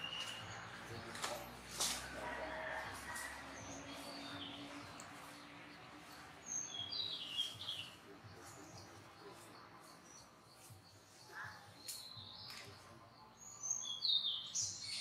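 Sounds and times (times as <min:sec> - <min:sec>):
small bird chirping: 0:00.0 - 0:01.6, 0:03.2 - 0:15.0.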